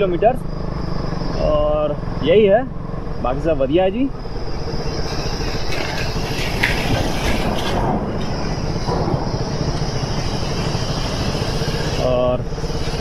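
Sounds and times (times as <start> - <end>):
motorcycle engine running: 0.0 - 13.0
tyre and road noise: 0.0 - 13.0.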